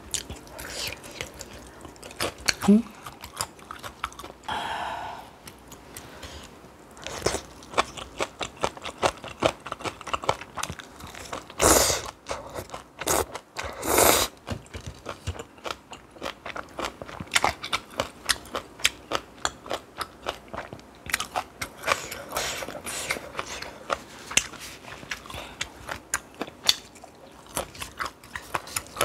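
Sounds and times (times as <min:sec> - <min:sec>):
chewing and crunching noodles: 0:00.0 - 0:04.5, 0:05.4 - 0:29.0.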